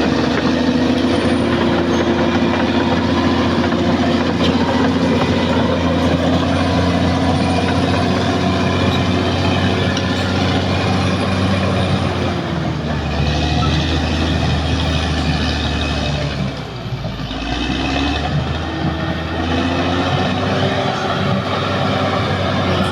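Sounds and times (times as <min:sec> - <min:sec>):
bulldozer diesel engine running: 0:00.0 - 0:22.9.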